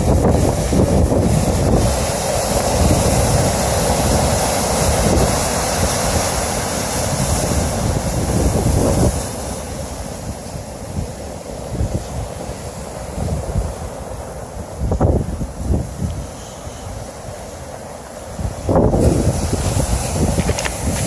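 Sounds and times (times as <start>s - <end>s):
storm surf breaking on shore: 0.0s - 21.0s
wind buffeting microphone: 0.0s - 21.0s.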